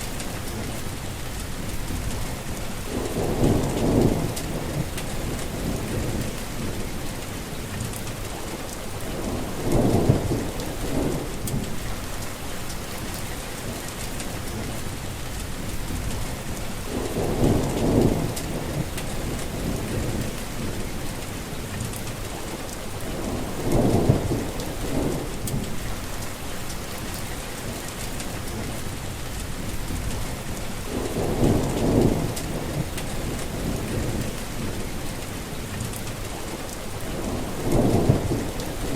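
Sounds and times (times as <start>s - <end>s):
heavy rain: 0.0s - 38.9s
low thunder rumbles: 0.0s - 38.9s.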